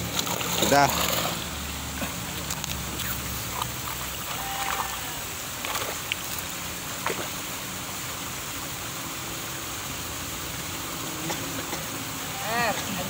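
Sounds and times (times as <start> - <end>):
running water hissing: 0.0 - 13.0.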